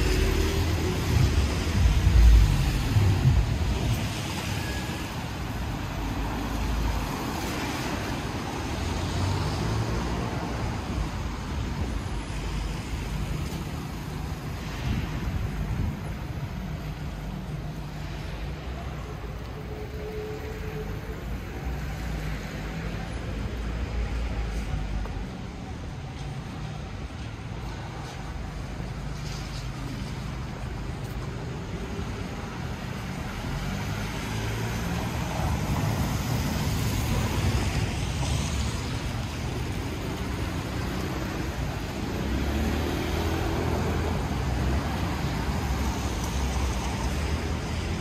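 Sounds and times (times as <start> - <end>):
street traffic: 0.0 - 48.0.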